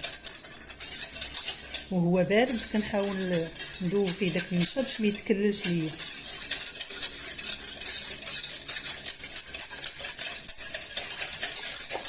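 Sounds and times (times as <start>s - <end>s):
utensil stirring in a container: 0.0s - 12.0s.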